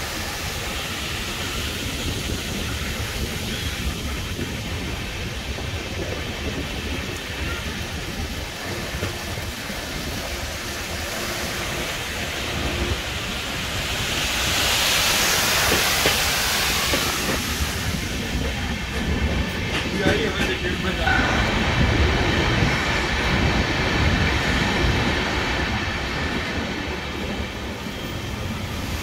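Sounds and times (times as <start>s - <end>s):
rushing hiss: 0.0s - 29.0s
train rumble and wheel rattle: 0.0s - 29.0s.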